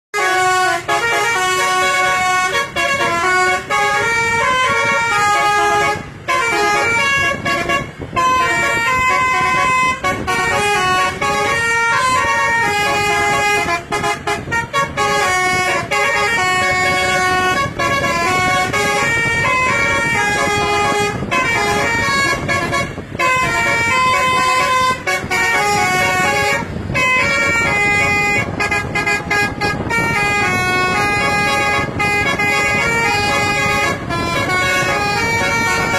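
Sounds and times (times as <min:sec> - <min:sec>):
bus horn melody: 0:00.1 - 0:35.9.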